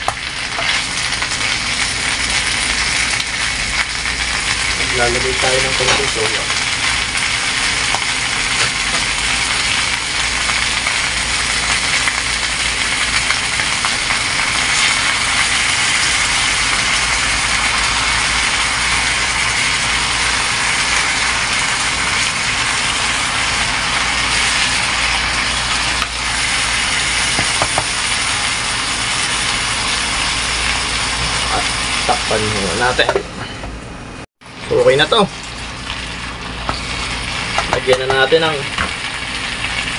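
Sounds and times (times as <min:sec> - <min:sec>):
tofu and liver sizzling in a pot: 0:00.0 - 0:33.2, 0:34.4 - 0:39.9.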